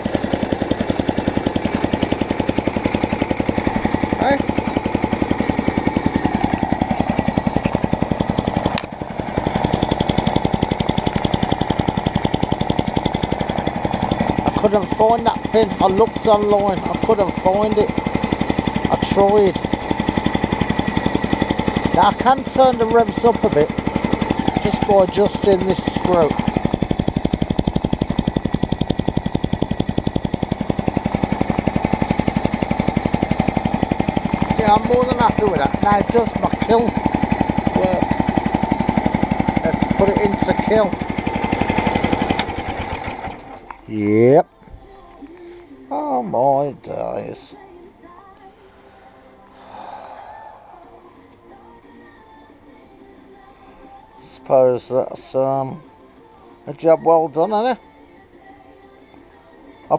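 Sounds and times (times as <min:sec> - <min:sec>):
lawnmower engine running: 0:00.0 - 0:44.4, 0:45.9 - 0:47.6, 0:54.2 - 0:55.8, 0:56.7 - 0:57.8.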